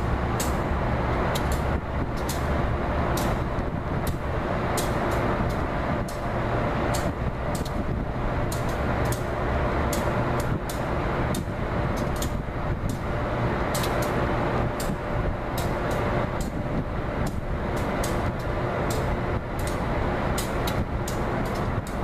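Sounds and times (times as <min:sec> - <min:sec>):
locomotive engine rumbling: 0:00.0 - 0:22.0.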